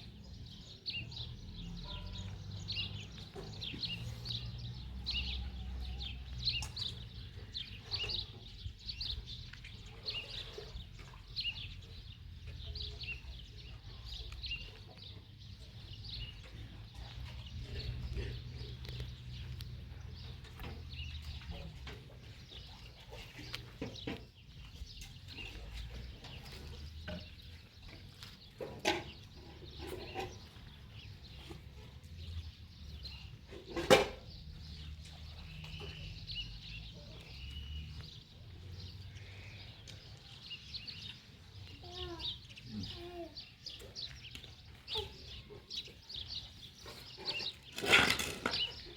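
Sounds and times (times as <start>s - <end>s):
birds chirping faintly: 0.0s - 48.9s.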